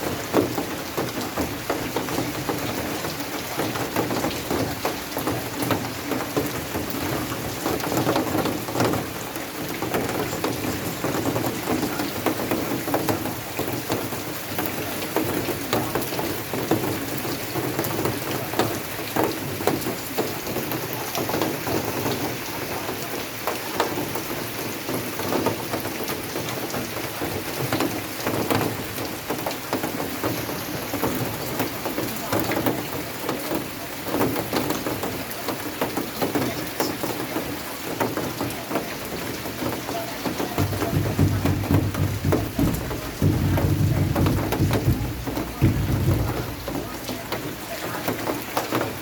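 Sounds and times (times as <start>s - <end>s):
heavy rainfall: 0.0s - 49.0s
raindrops striking: 0.0s - 49.0s.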